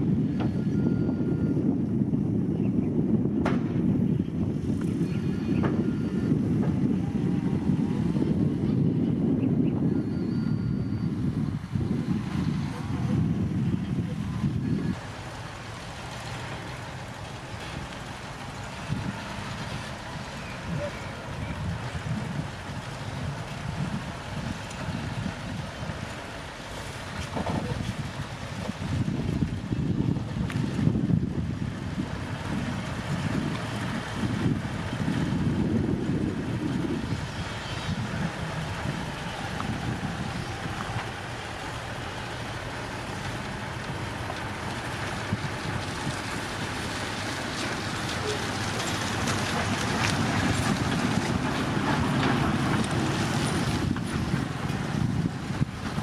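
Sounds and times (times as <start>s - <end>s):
heavy machinery engine rumble: 0.0s - 56.0s.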